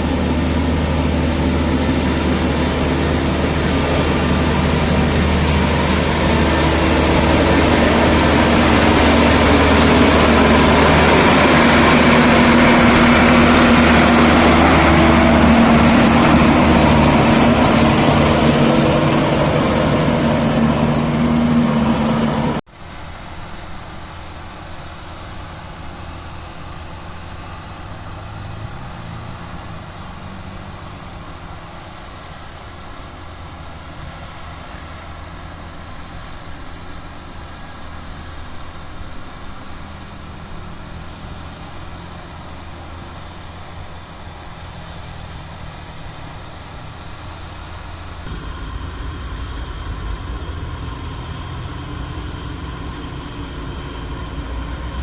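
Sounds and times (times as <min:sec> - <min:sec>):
combine harvester engine running: 0:00.0 - 0:55.0
quiet engine hum: 0:00.0 - 0:55.0.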